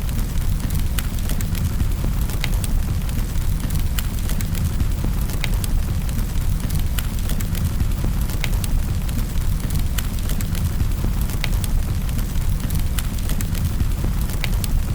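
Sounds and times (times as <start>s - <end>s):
wood fire crackling: 0.0s - 14.9s.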